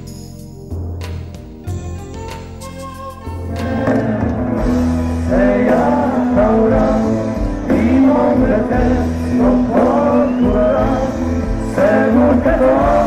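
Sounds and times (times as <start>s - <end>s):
live band with singer: 1.0s - 13.0s.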